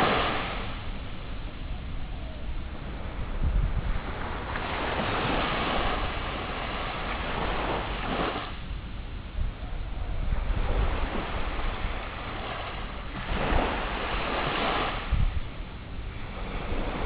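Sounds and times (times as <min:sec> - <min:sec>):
sea waves washing onto shore: 0:00.0 - 0:01.6, 0:02.7 - 0:08.8, 0:10.2 - 0:17.0
steady low rumble: 0:00.0 - 0:17.0.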